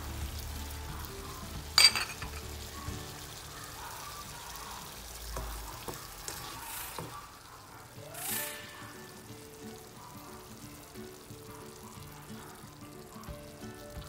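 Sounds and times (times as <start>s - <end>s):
background music: 0.0s - 14.0s
chicken sizzling in a pan: 0.0s - 14.0s.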